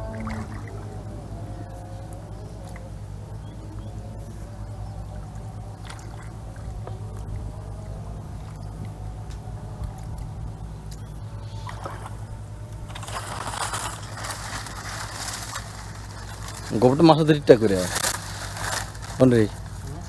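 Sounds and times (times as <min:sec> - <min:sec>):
water sloshing and splashing: 0:00.0 - 0:19.8
steady low rumble: 0:00.0 - 0:20.0.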